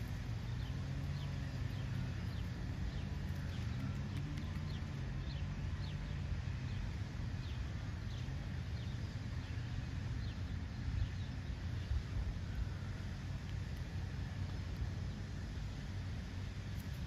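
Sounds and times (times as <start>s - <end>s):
low outdoor rumble: 0.0s - 17.0s
small songbirds chirping: 0.0s - 17.0s.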